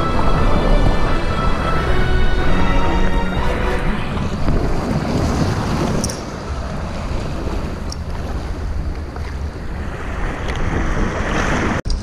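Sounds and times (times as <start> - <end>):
surf breaking around rocks: 0.0 - 11.9
wind buffeting microphone: 0.0 - 12.0.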